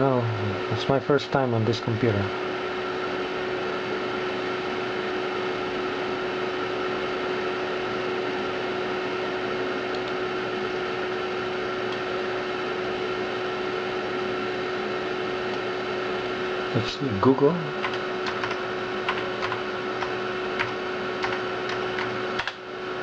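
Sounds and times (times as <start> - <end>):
computer fan whirring: 0.0 - 23.0
constant even whine: 0.0 - 23.0.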